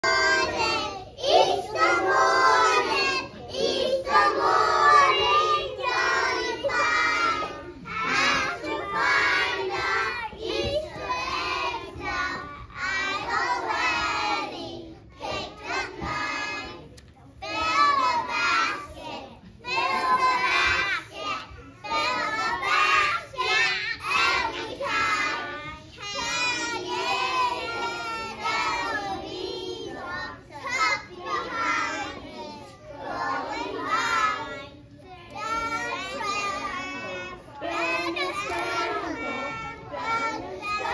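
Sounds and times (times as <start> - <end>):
children singing together: 0.0 - 40.9.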